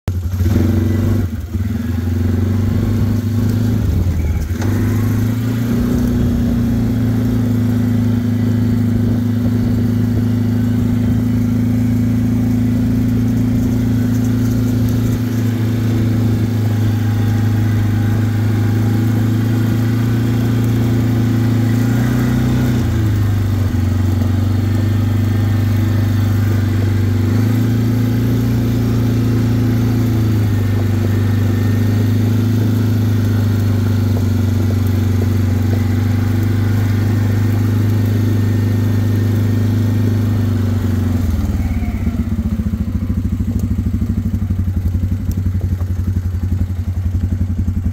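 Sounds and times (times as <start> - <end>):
engine running at low revs: 0.1 - 47.9.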